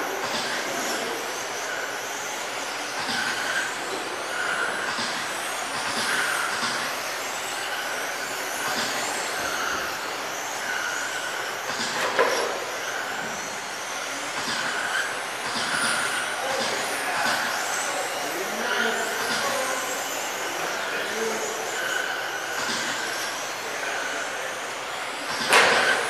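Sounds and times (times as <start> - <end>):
electric toy car motors whining: 0.0 - 26.0.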